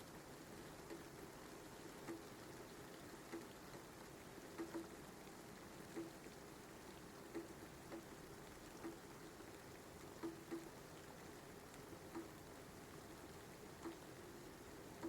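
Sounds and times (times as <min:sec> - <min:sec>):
soft rain patter: 0:00.0 - 0:15.0.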